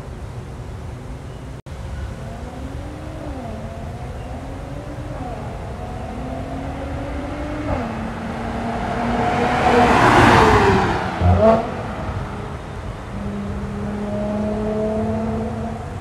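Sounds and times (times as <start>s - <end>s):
car accelerating past: 2.4s - 16.0s.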